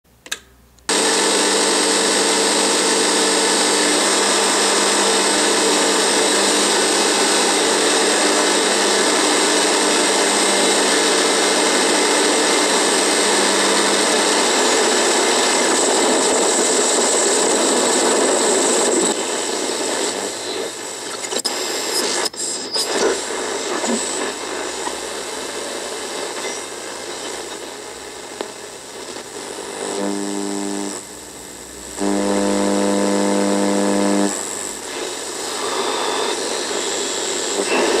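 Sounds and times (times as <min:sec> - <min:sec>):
radio electrical buzz with static: 0:00.9 - 0:38.0.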